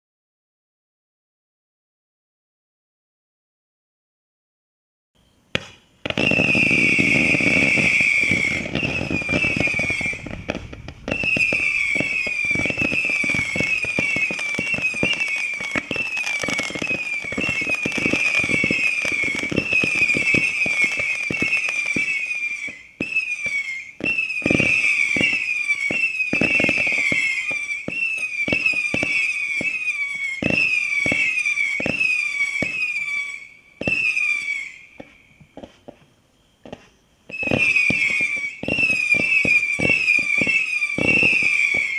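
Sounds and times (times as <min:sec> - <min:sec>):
firework whistles: 0:05.2 - 0:41.9
firework sharp pops: 0:05.5 - 0:33.1, 0:33.8 - 0:41.9.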